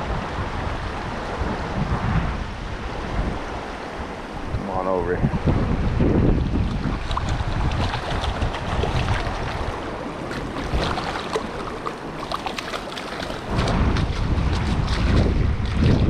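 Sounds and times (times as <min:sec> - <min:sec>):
mountain creek rushing: 0:00.0 - 0:16.0
wind buffeting microphone: 0:00.0 - 0:16.0.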